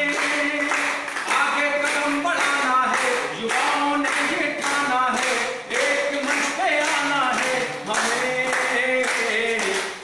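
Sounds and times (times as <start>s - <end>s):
crowd clapping in rhythm: 0.0s - 10.0s
man singing unaccompanied: 0.0s - 10.0s.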